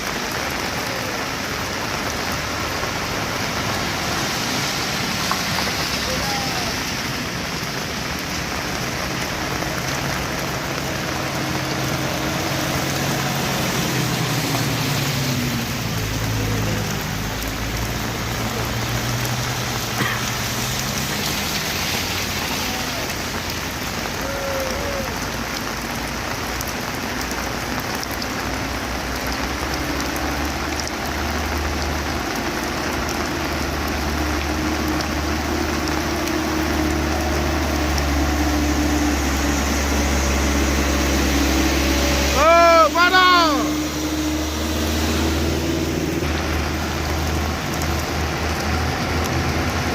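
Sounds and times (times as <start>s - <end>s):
rain-like hiss: 0.0s - 49.9s.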